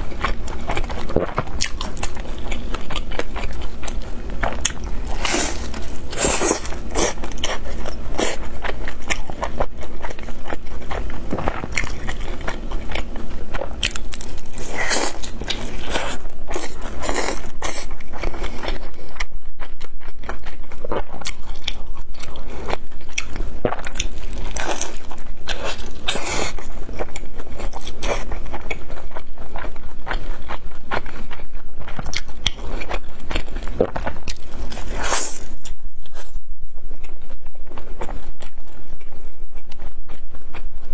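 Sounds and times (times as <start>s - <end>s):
crunchy chewing of fried food: 0.0s - 40.9s.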